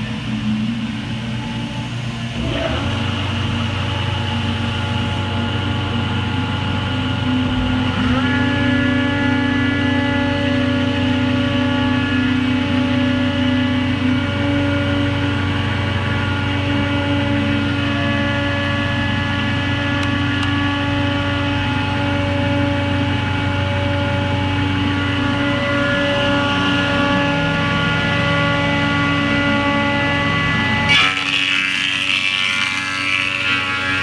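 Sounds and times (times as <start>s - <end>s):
planer motors humming: 0.0s - 34.0s.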